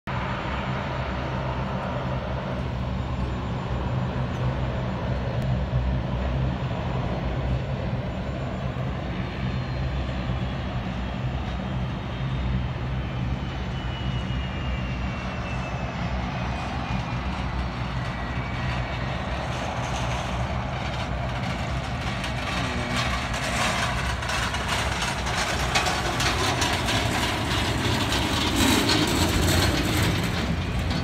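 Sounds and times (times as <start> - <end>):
distant jet engines rumbling: 0.1 - 31.0
faint high whine: 0.1 - 31.0.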